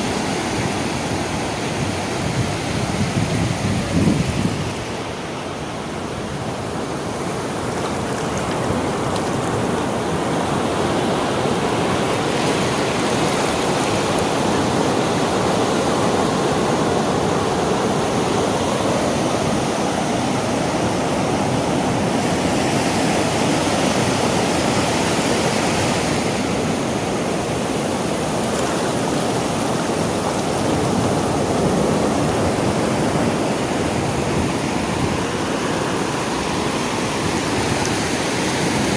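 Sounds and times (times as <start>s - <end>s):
surf washing in: 0.0s - 38.9s.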